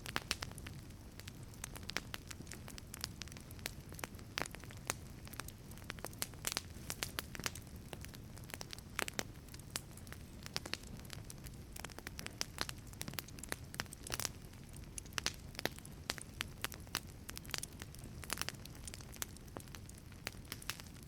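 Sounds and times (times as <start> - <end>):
low rumble of burning: 0.0 - 21.0
wood fire crackling: 0.0 - 21.0.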